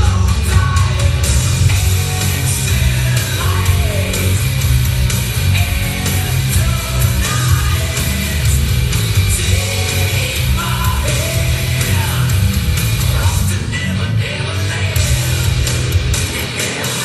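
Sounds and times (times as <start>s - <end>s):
heavy rock music with singing: 0.0s - 17.0s.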